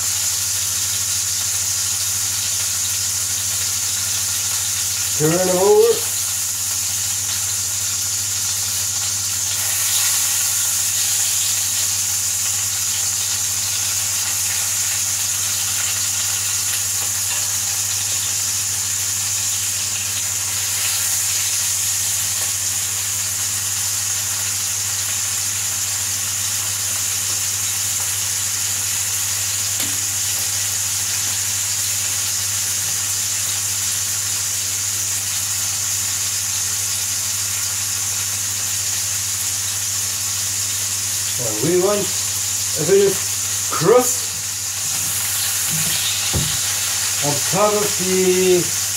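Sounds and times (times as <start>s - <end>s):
patties sizzling in a frying pan: 0.0s - 48.9s.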